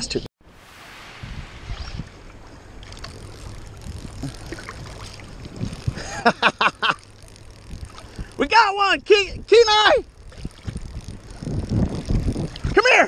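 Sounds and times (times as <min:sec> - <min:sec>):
water moving: 0:00.4 - 0:12.9
wind on microphone: 0:00.4 - 0:13.0.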